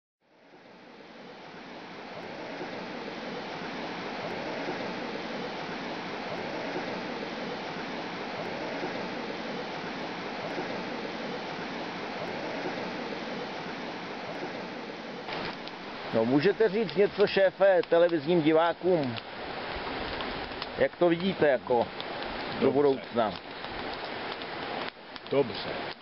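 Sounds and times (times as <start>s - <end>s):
steady rushing noise: 0.2s - 26.0s.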